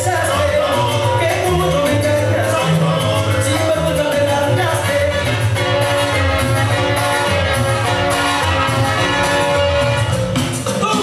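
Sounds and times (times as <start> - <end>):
latin dance music over speakers: 0.0 - 11.0.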